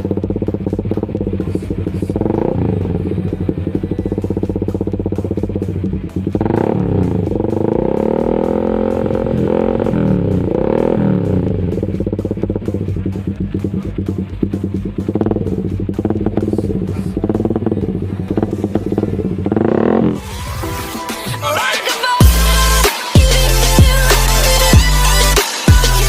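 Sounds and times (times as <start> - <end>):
motorcycle engine idling and revving: 0.0 - 21.1, 22.2 - 26.0.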